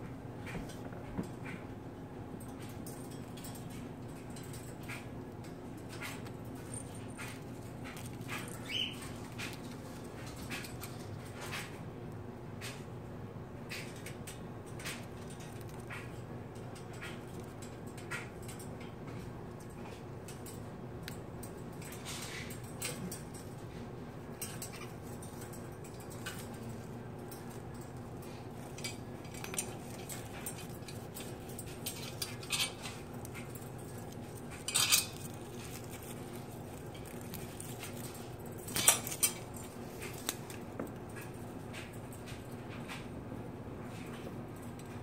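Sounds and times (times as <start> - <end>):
steady low hum: 0.0 - 45.0
plastic toys rattling on cage wire: 2.4 - 11.8, 13.7 - 43.0.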